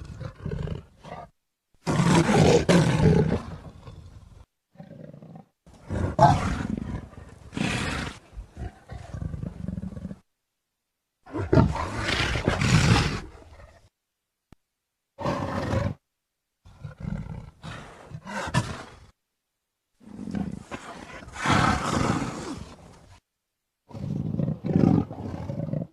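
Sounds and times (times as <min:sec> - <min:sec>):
leopard roaring: 0:00.0 - 0:10.2, 0:11.3 - 0:13.9, 0:15.2 - 0:16.0, 0:16.7 - 0:19.1, 0:20.0 - 0:22.9, 0:23.9 - 0:25.9.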